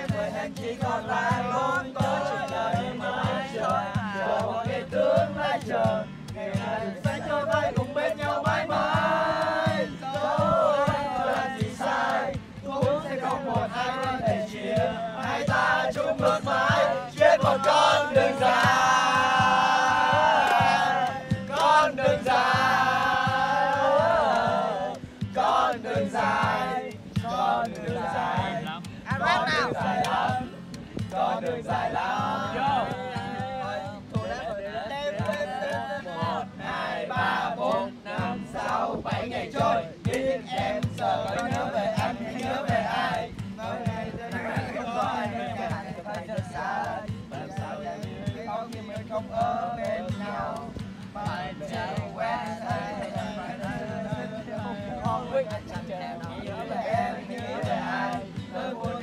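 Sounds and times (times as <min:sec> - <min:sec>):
acoustic guitar strumming: 0:00.0 - 0:59.0
group of voices singing: 0:00.0 - 0:59.0.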